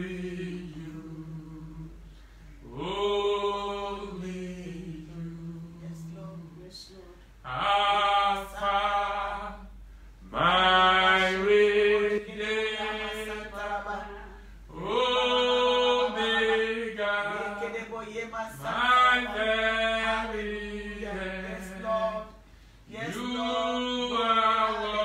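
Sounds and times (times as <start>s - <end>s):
man singing unaccompanied: 2.6s - 9.7s, 10.3s - 25.0s.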